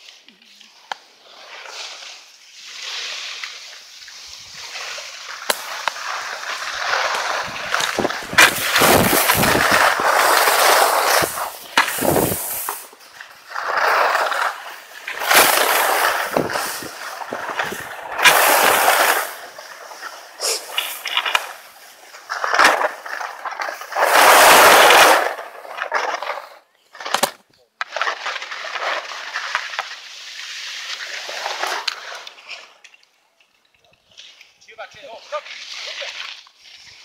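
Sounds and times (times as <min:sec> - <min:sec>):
skis scraping over packed snow: 0:00.0 - 0:37.0.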